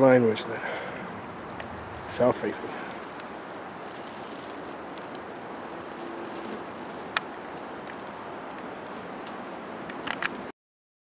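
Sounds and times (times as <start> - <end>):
forest background hiss: 0.0 - 10.5.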